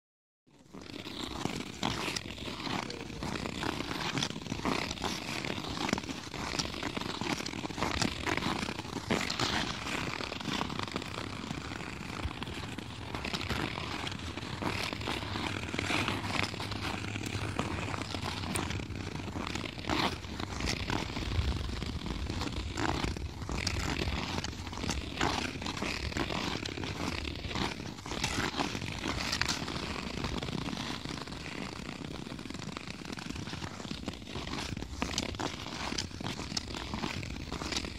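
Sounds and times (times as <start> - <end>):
ice skates scraping on ice: 0.5 - 37.9.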